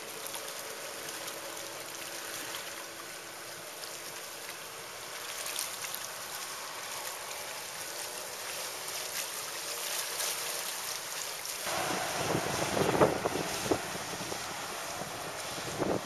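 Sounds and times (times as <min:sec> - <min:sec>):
faint outboard engine drone: 0:00.0 - 0:16.0
water and spray hissing: 0:00.0 - 0:16.0.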